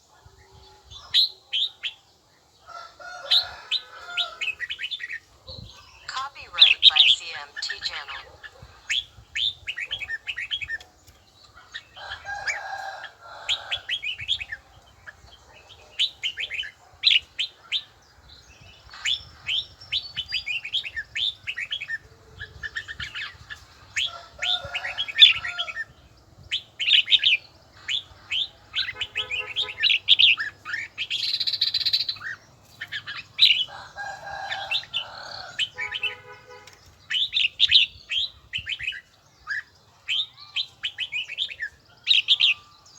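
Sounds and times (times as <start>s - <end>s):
bulbul singing: 4.3s - 12.7s, 13.4s - 42.9s.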